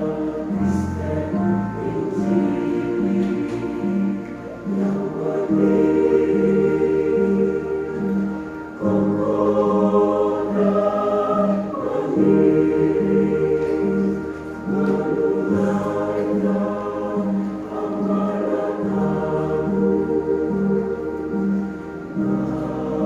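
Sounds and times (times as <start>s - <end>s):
choir singing sustained chords: 0.0s - 23.0s.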